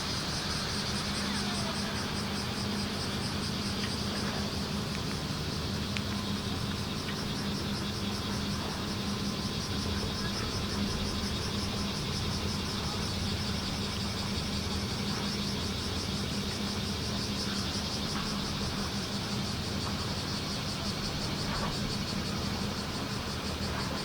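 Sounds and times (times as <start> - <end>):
cicadas buzzing in chorus: 0.0 - 24.0
low engine-like hum: 0.0 - 24.0.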